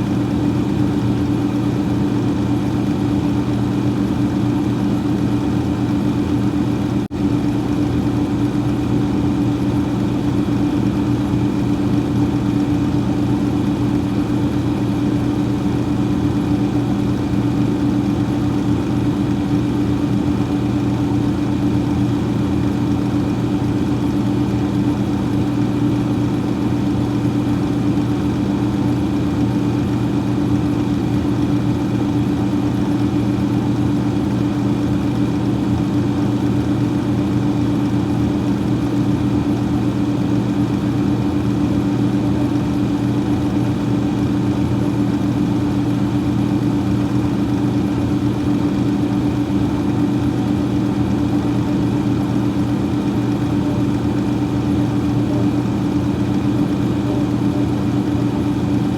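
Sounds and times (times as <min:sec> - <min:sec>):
freezer fan whirring hum: 0:00.0 - 0:58.9.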